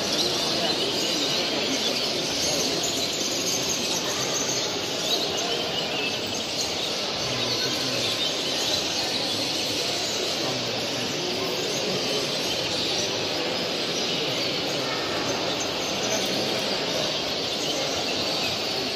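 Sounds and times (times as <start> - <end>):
finches chirping and trilling: 0.0 - 18.9
hubbub of a large hall: 0.0 - 18.9.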